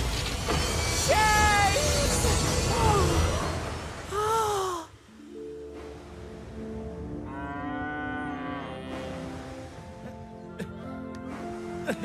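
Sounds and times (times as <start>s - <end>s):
background music of low notes: 0.0s - 12.0s.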